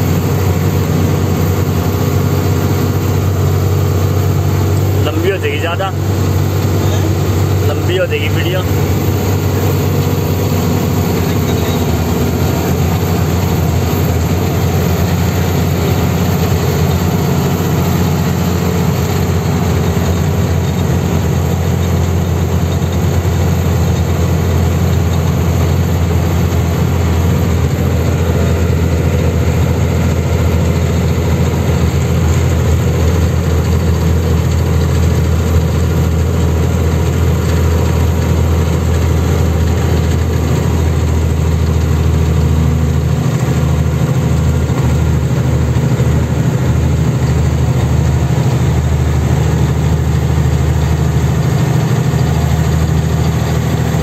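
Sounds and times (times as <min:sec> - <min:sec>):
road noise: 0:00.0 - 0:54.0
truck engine droning: 0:00.0 - 0:54.0.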